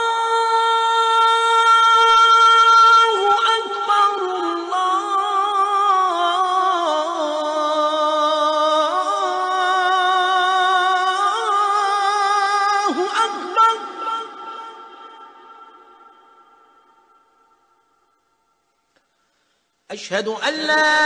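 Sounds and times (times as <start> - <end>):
chanting voice: 0.0 - 18.4, 19.9 - 21.0.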